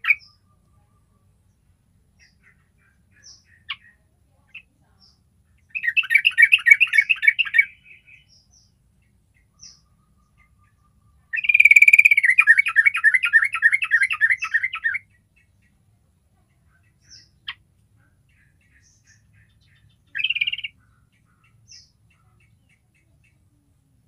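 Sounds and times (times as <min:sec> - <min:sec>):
bird singing chattering phrases: 0:00.0 - 0:24.0
faint bird chirps: 0:00.0 - 0:24.0.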